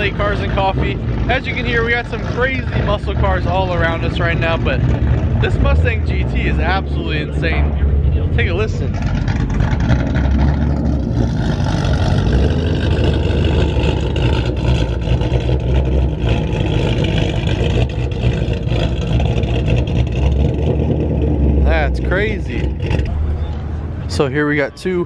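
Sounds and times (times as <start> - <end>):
engine revving through exhaust: 0.0 - 24.2.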